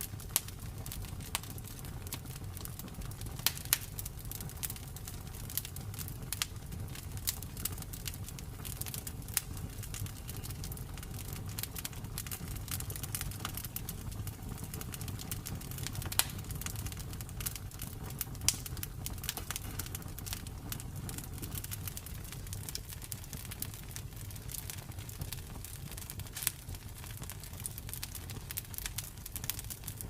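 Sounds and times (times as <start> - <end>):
campfire wood crackling: 0.0 - 30.0
low rumble of flames: 0.0 - 30.0.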